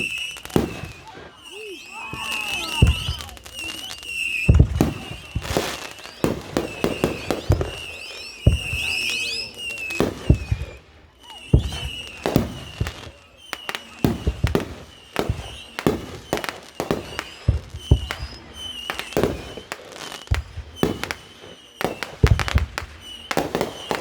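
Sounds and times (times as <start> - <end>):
fireworks bangs and pops: 0.0 - 24.0.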